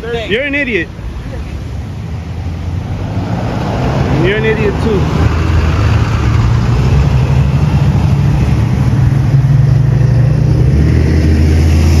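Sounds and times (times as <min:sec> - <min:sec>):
road traffic noise: 0:00.0 - 0:12.0
motor vehicle engine running: 0:01.4 - 0:12.0.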